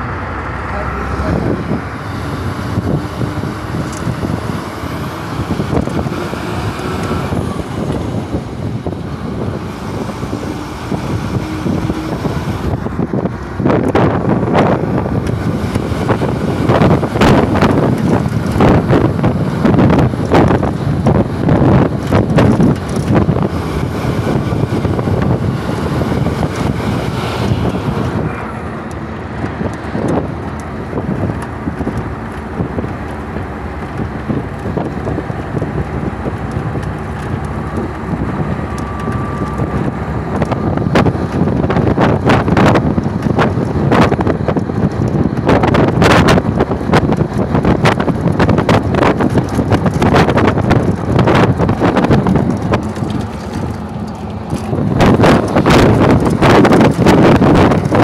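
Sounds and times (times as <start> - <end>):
vehicle road and engine noise: 0.0 - 58.0
wind buffeting microphone: 0.0 - 58.0.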